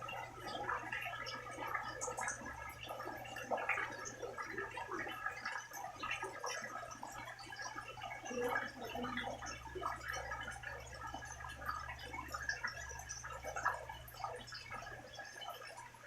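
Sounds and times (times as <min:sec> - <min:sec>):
rain dripping and splashing: 0:00.0 - 0:16.0.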